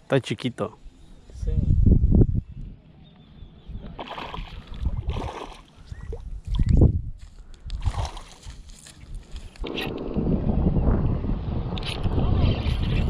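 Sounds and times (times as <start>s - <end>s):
wind buffeting microphone: 1.2s - 13.0s.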